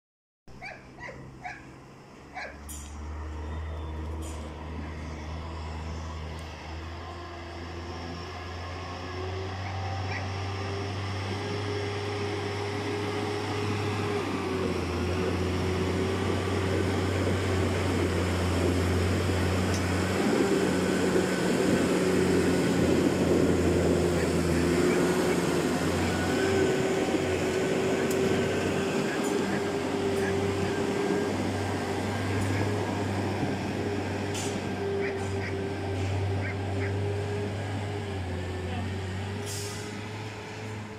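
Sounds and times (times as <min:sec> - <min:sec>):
tractor diesel engine running: 0:01.4 - 0:40.9.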